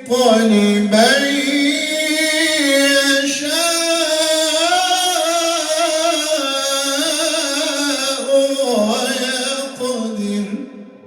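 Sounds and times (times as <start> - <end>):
man chanting recitation: 0.0 - 10.8.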